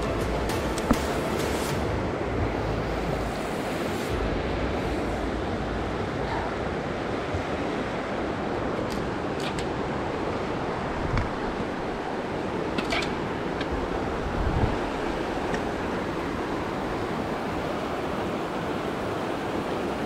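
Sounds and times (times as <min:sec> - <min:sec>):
river rapids rushing over rocks: 0:00.1 - 0:20.0.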